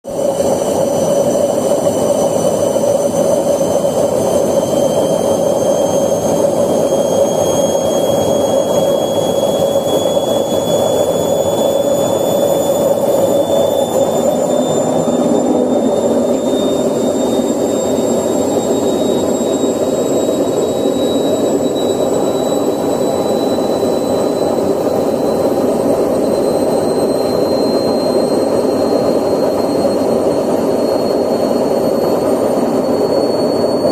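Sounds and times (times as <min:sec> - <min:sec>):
thin whine rising in pitch: 0:00.1 - 0:33.9.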